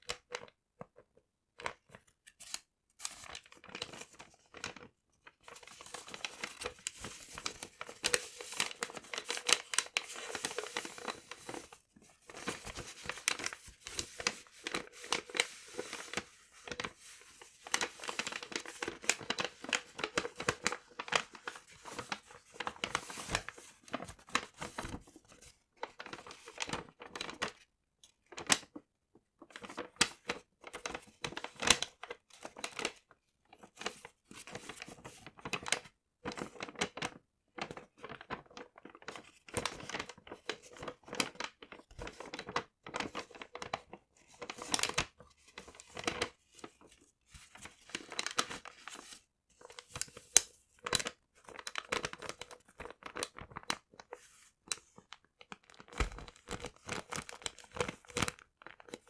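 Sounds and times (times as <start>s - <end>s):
paper crinkling and rustling: 1.6s - 27.6s, 29.5s - 59.0s.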